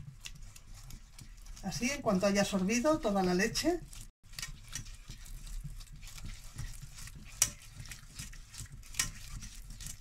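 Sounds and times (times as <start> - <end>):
whisk stirring thick sauce: 0.0 - 10.0
whisk tapping saucepan: 0.0 - 10.0.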